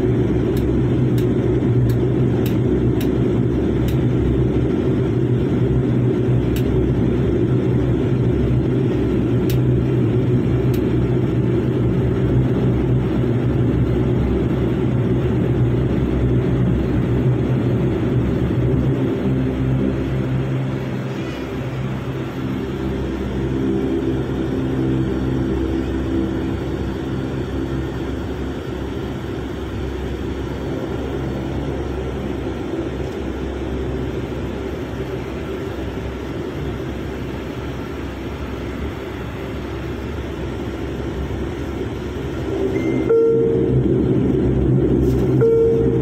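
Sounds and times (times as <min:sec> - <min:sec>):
airliner engines droning: 0:00.0 - 0:46.0.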